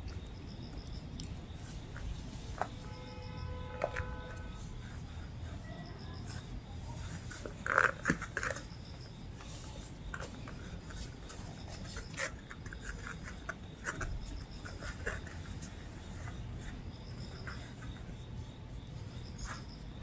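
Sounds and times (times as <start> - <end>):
rope rustling: 1.0 - 20.0
ticks and scuffles on a mat: 1.5 - 20.0.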